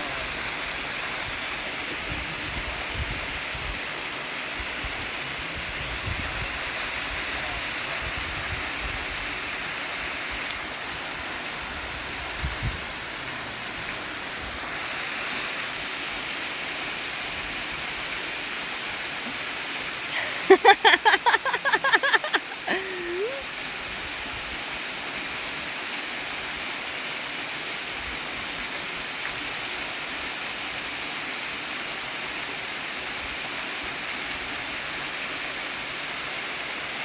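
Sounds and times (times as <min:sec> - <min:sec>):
small waterfall splashing into pool: 0:00.0 - 0:37.0.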